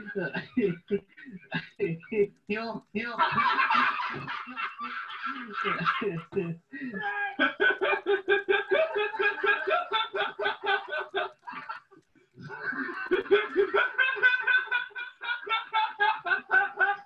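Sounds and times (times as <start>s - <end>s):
men laughing: 0.0s - 17.0s.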